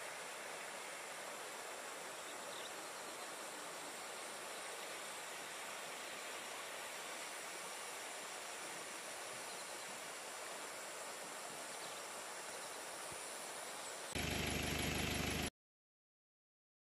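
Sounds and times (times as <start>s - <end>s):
steady outdoor hiss: 0.0s - 15.5s.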